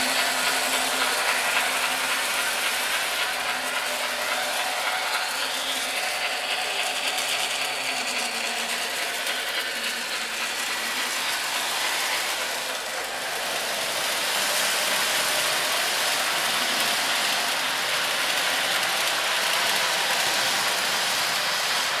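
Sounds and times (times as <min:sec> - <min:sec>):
model train motor whirring: 0:00.0 - 0:22.0
wheels rolling on rails: 0:00.0 - 0:22.0.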